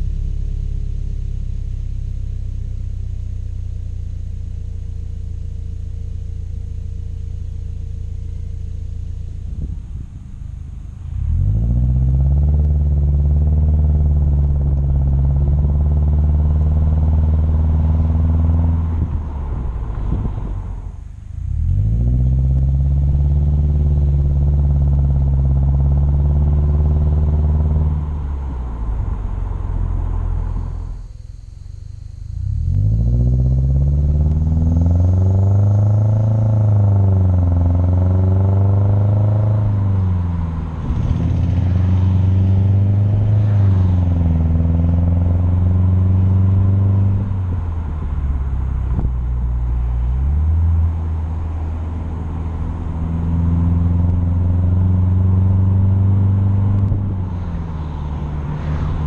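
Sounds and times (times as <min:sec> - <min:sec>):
car exhaust drone: 0:00.0 - 0:59.0.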